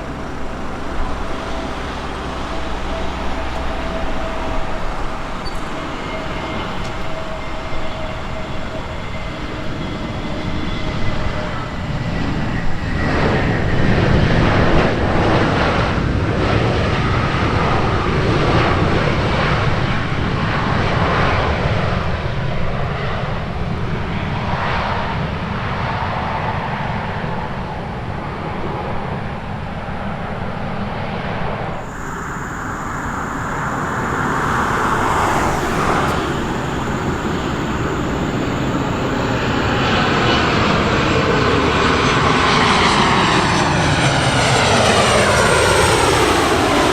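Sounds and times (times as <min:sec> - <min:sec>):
airliner engines passing: 0:00.0 - 0:46.9.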